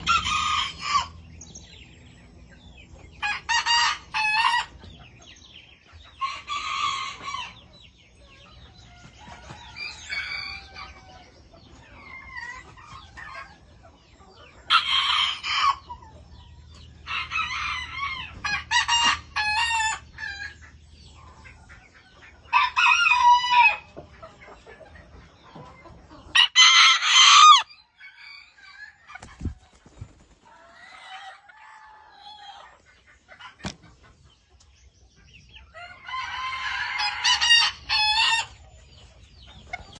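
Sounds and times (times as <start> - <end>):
chickens crowing: 0.0 - 39.9.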